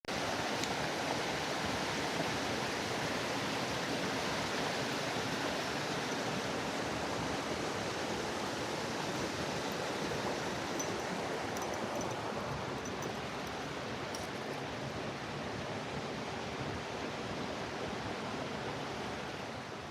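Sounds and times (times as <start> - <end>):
stream rushing over rocks: 0.1 - 19.9.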